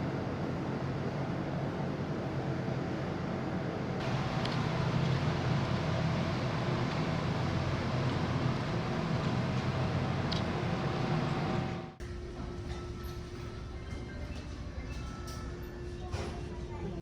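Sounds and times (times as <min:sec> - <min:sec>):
ferry engine drone: 0:00.0 - 0:15.0.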